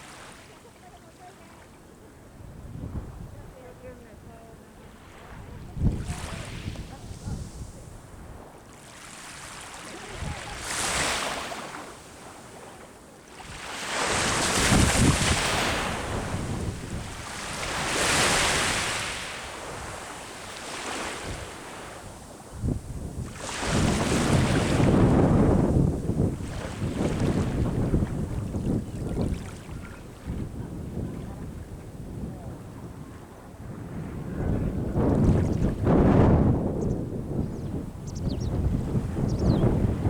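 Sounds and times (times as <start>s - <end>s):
ocean waves breaking: 0.0s - 2.4s, 3.6s - 36.6s
wind buffeting microphone: 2.2s - 8.6s, 10.0s - 11.3s, 13.5s - 40.0s.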